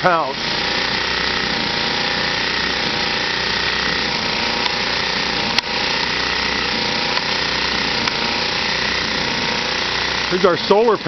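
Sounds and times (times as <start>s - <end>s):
portable generator running: 0.0s - 11.0s
pump jack motor pumping: 0.0s - 11.0s.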